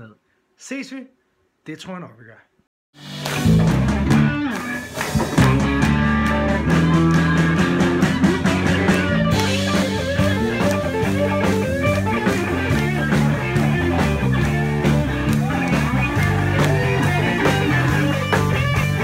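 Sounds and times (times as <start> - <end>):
rock band music: 3.0 - 19.0.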